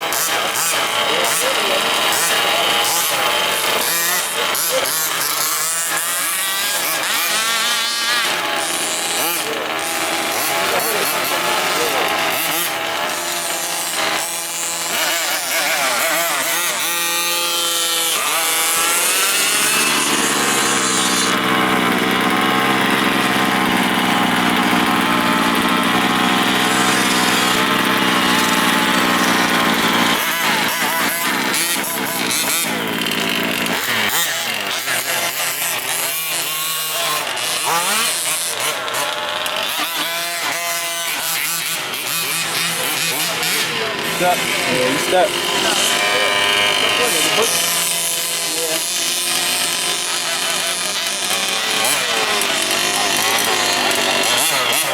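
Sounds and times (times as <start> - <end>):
small two-stroke engines revving: 0.0 - 54.9.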